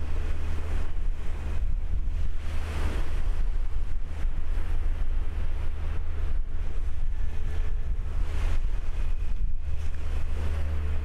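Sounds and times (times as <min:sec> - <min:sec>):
water washing against hull: 0:00.0 - 0:11.0
wind buffeting microphone: 0:00.0 - 0:11.0.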